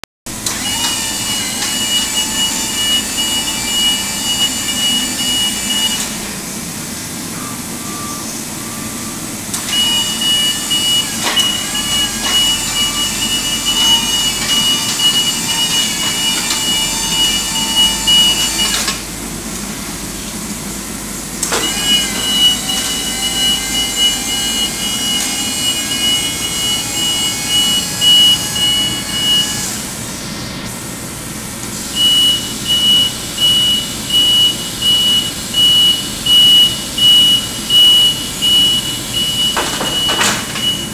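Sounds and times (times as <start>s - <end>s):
scissor lift alarm beeping: 0.3s - 6.3s, 7.2s - 19.0s, 21.4s - 29.9s, 31.9s - 40.9s.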